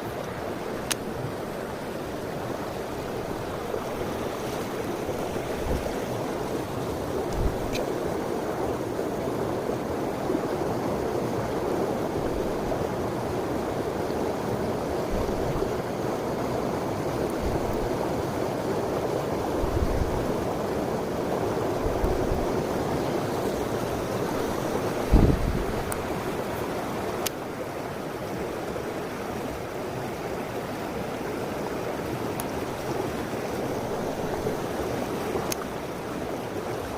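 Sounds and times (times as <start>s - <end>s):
water rushing over rocks: 0.0s - 36.9s.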